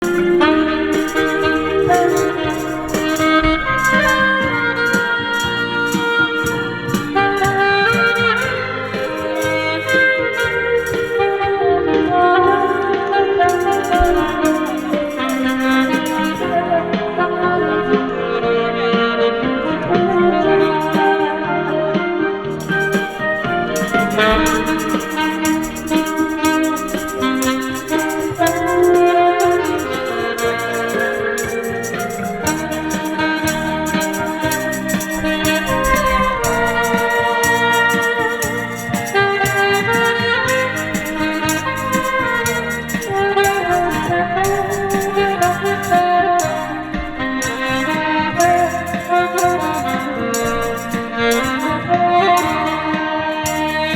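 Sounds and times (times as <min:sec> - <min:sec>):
light percussion beat: 0:00.0 - 0:11.4, 0:12.3 - 0:16.6, 0:20.6 - 0:21.4, 0:22.5 - 0:53.9
slow saxophone melody: 0:00.0 - 0:16.7, 0:22.6 - 0:53.9.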